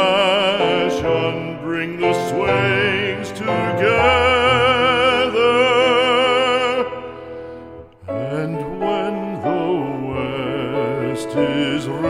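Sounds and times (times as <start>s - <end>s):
operatic singing with vibrato: 0.0s - 12.0s.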